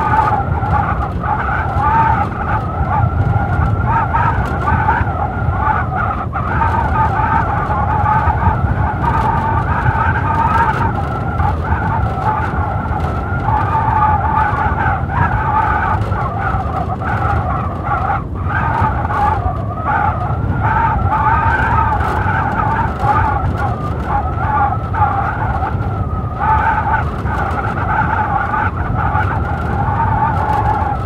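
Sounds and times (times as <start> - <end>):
blizzard wind howling: 0.0 - 31.0
low rumble of gusts: 0.0 - 31.0.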